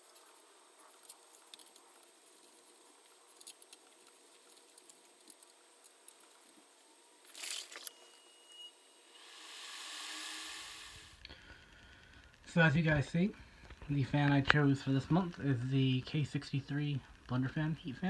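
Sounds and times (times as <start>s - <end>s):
small clicks and ticks: 0.0s - 8.1s, 11.1s - 18.0s
faint room hiss: 0.0s - 18.0s.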